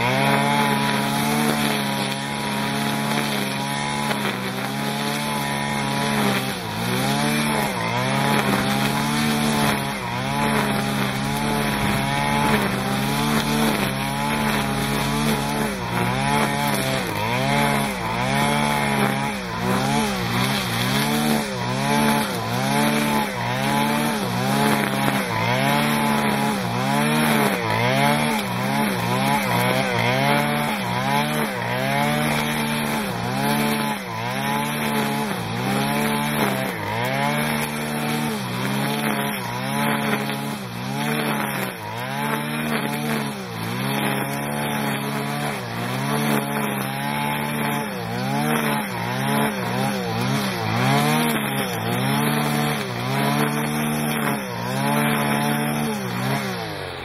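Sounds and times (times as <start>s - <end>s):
blade cutting grass: 0.0s - 57.0s
brushcutter engine at high revs: 0.0s - 57.0s.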